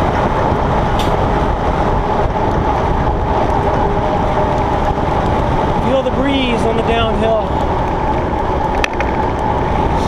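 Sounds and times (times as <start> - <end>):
bike tyres humming on road: 0.0 - 10.0
wind rushing over microphone: 0.0 - 10.0.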